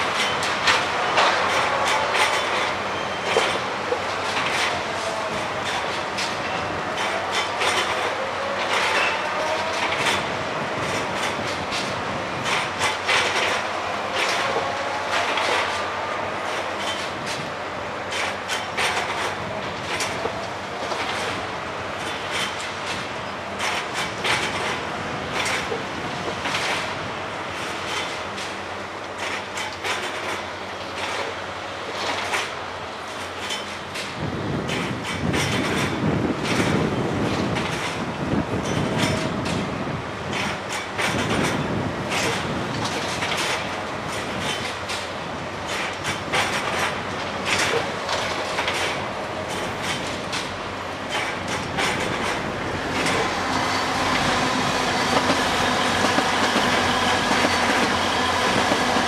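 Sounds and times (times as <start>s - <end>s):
steady machinery noise: 0.0s - 59.0s.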